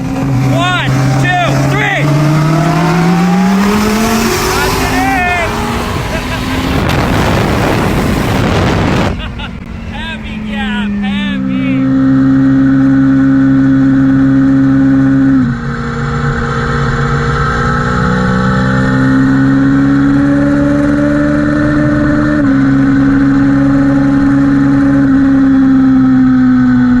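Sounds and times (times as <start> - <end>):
engine accelerating through gears: 0.0 - 10.4, 11.0 - 27.0.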